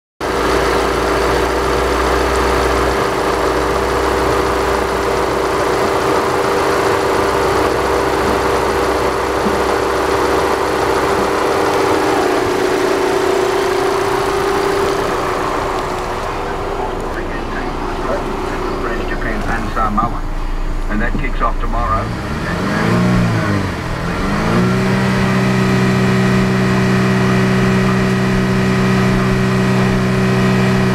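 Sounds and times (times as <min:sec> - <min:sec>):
car engine idling: 0:00.2 - 0:30.9.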